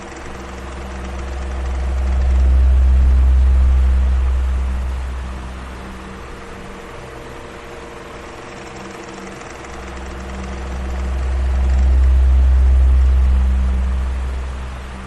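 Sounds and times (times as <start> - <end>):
electric fan whirring: 0.0 - 15.0
faint motor hum: 0.0 - 15.0.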